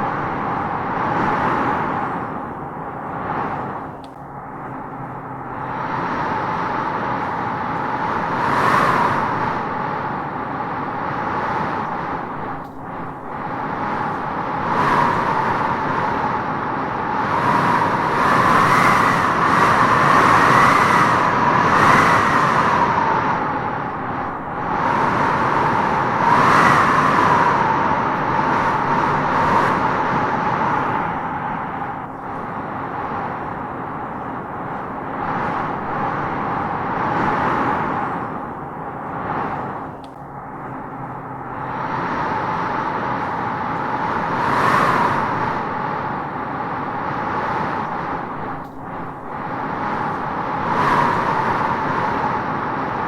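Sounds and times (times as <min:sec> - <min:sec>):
wavering wind whistle: 0:00.0 - 0:53.0
wind gusting through trees: 0:00.0 - 0:53.0.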